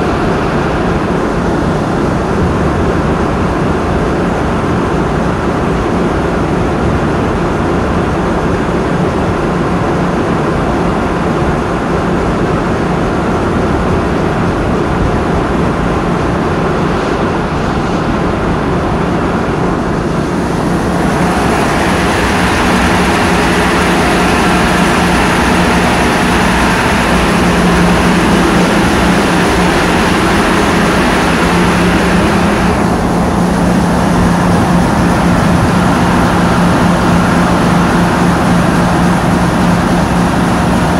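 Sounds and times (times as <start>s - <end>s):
boat engine running: 0.0s - 40.9s
steady hum: 0.0s - 40.9s
water rushing along hull: 0.0s - 40.9s.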